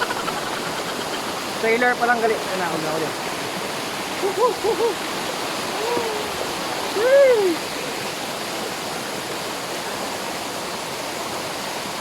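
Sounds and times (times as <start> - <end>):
rushing waterfall and stream: 0.0 - 12.0.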